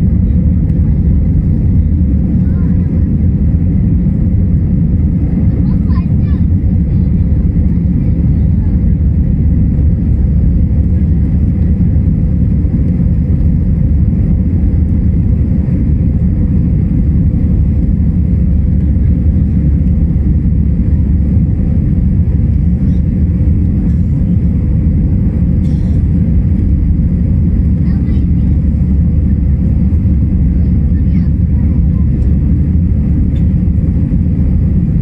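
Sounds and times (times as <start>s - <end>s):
airflow noise: 0.0s - 35.0s
airplane cabin engine rumble: 0.0s - 35.0s.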